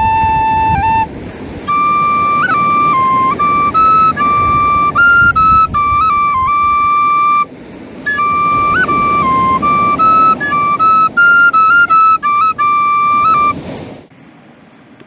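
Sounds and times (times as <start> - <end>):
solo flute melody: 0.0 - 13.8.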